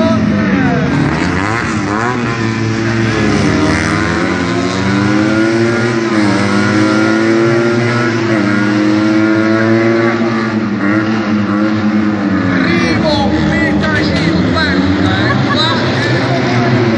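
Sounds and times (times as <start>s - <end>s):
car engine revving hard: 0.0s - 16.9s.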